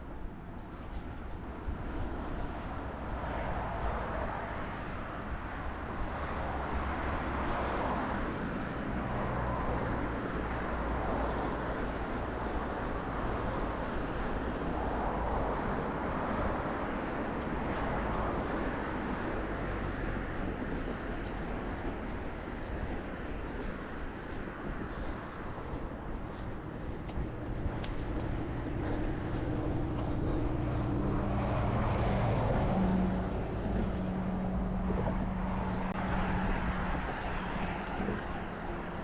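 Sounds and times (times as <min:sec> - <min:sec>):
road traffic passing: 0:00.0 - 0:39.0
wind rumble on microphone: 0:00.0 - 0:39.0.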